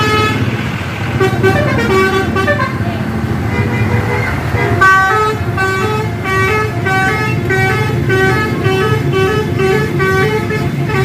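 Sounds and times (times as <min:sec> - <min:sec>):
musical bus horn melody: 0:00.0 - 0:00.6, 0:01.2 - 0:02.8, 0:03.5 - 0:11.0
bus engine rumbling: 0:00.0 - 0:11.0.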